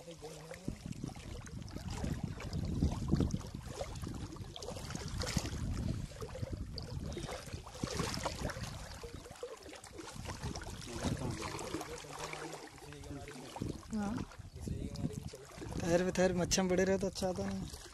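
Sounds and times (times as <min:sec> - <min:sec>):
wading through shallow water: 0:00.0 - 0:17.9.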